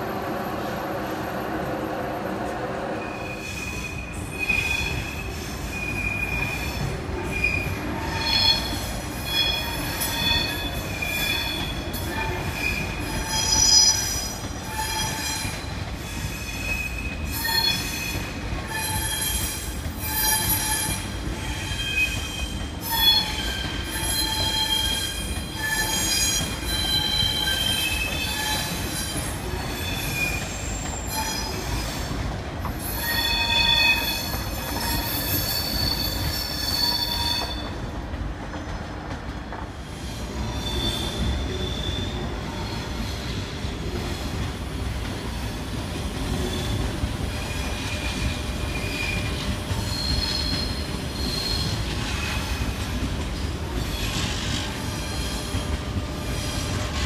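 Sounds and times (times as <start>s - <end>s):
low rumble of train cars: 0.0s - 57.0s
train wheels squealing: 0.2s - 38.0s, 39.8s - 57.0s.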